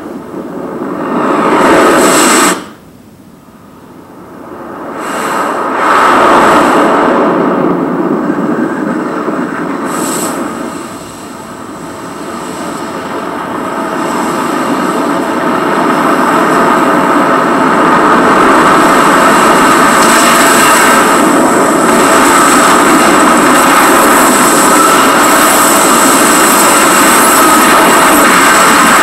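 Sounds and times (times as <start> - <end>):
rumbling rush of wind and water: 3.7 - 29.0.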